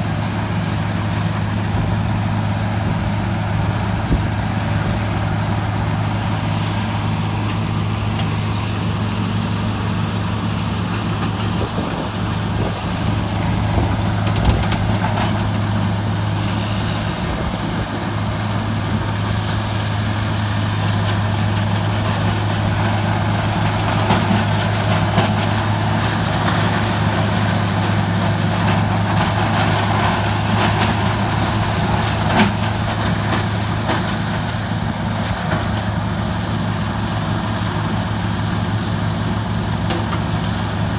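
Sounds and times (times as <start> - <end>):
diesel engine running: 0.0 - 40.9
high whine: 0.0 - 40.9.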